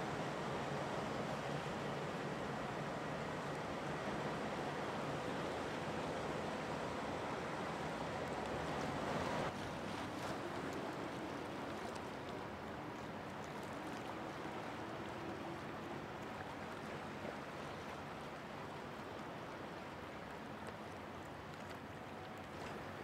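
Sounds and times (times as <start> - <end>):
churned water wash: 0.0 - 23.0
ship machinery hum: 0.0 - 23.0.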